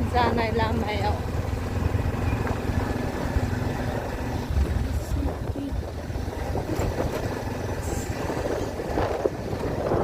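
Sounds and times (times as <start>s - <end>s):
wind buffeting microphone: 1.3s - 10.0s.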